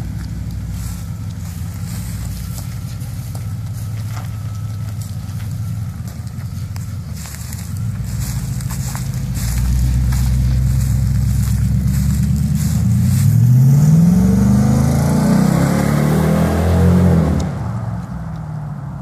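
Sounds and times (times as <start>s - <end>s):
engine accelerating: 0.0s - 19.0s.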